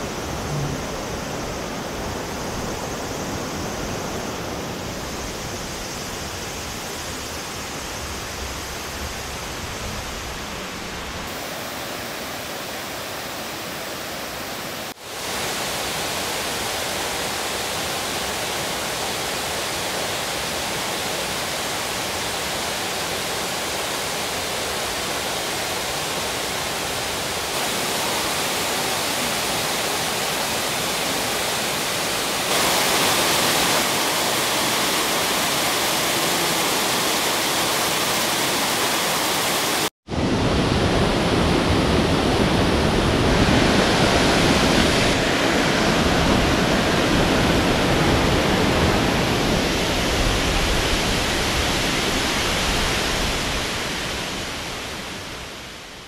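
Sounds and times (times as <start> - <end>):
waterfall rushing: 0.0 - 55.2.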